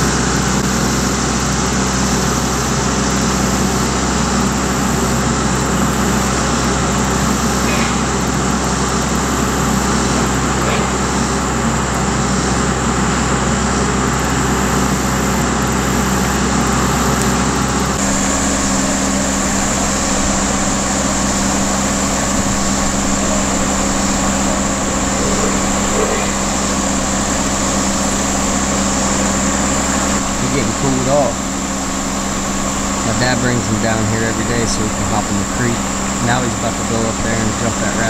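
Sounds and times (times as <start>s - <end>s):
power equipment motor drone: 0.0s - 38.0s.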